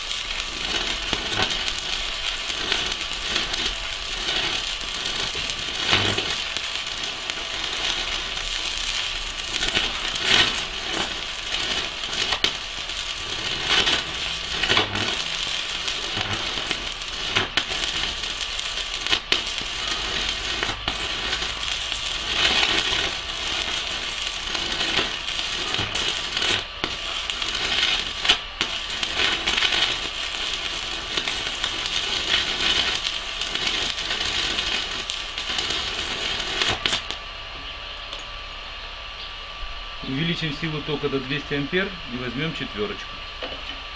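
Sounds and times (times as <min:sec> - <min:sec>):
small welding pops: 0:00.0 - 0:37.3, 0:38.0 - 0:38.3
welding arc crackling: 0:00.0 - 0:43.0.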